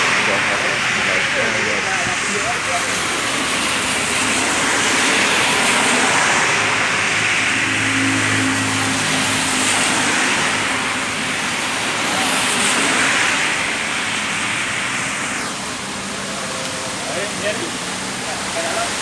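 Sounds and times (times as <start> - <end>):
rain and tyre spray hiss: 0.0 - 19.0
vehicle passing on wet road: 0.0 - 19.0.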